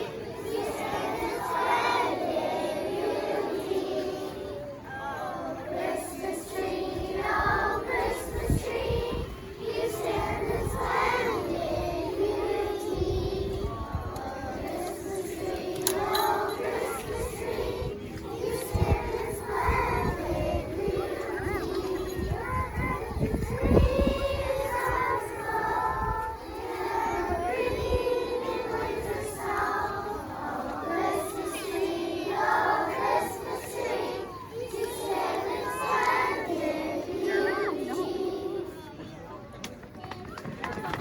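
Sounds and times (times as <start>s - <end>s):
children singing: 0.0s - 38.8s.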